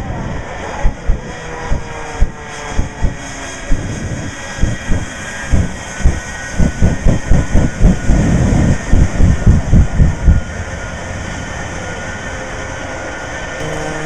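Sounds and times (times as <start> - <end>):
jet engines on afterburner: 0.0 - 14.0.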